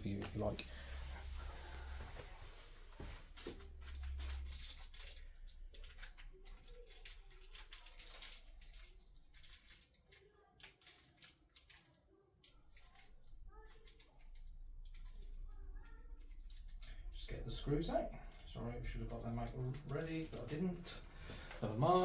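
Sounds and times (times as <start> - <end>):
plastic parts clicking and rustling: 3.0 - 22.0.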